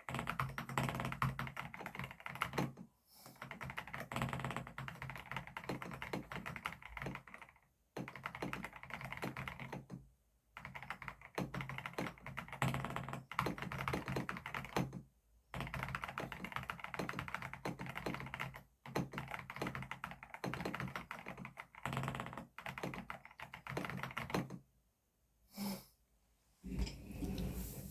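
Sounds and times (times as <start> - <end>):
mechanical keyboard typing: 0.0 - 10.0, 10.6 - 24.6.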